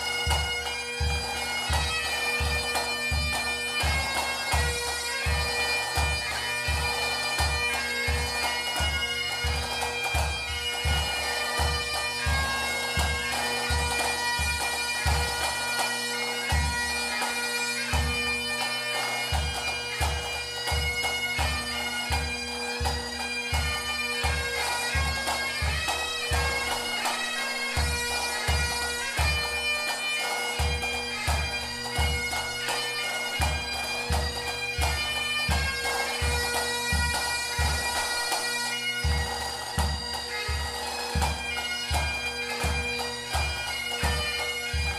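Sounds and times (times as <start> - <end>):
bagpipes playing a tune: 0.0 - 44.9.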